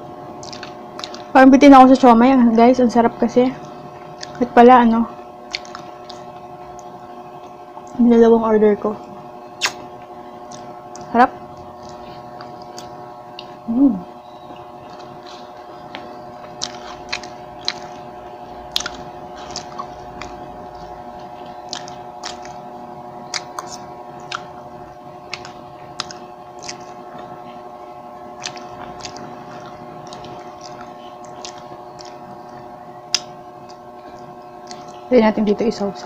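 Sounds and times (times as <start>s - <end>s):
steady low hum: 0.0s - 36.0s
person chewing with mouth sounds: 0.4s - 1.3s, 3.6s - 4.6s, 5.4s - 8.0s, 9.4s - 35.1s.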